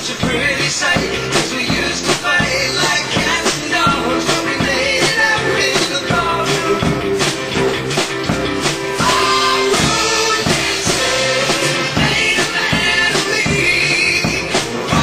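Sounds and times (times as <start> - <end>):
pop-rock song with singing: 0.0 - 15.0.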